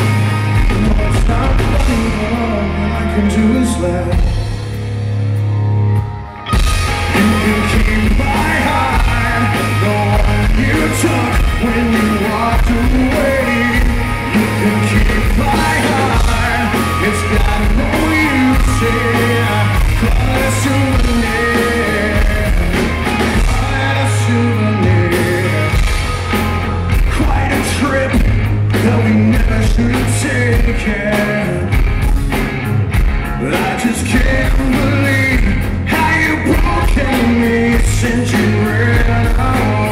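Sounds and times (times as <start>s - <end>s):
man singing: 0.0s - 4.8s, 6.5s - 32.0s, 33.4s - 39.9s
live rock band playing: 0.0s - 39.9s.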